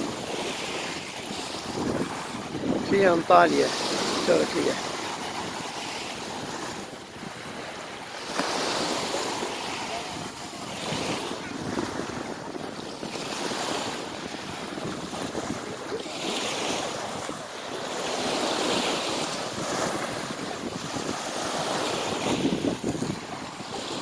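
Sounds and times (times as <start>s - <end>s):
waves washing onto pebbles: 0.0s - 24.0s
wind buffeting microphone: 0.0s - 24.0s.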